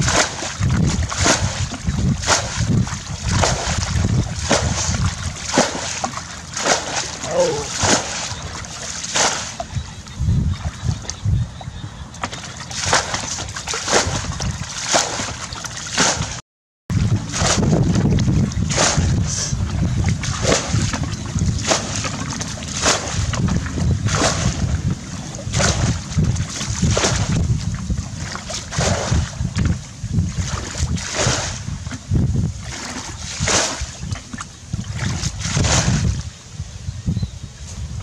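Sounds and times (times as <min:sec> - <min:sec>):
muddy water splashing: 0:00.0 - 0:36.4
wind rumble on microphone: 0:00.0 - 0:38.0.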